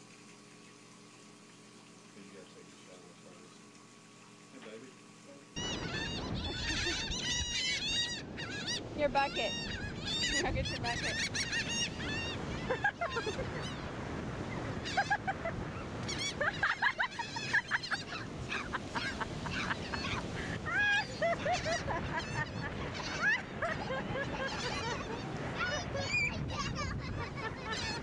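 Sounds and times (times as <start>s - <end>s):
gulls squawking: 5.6s - 28.0s.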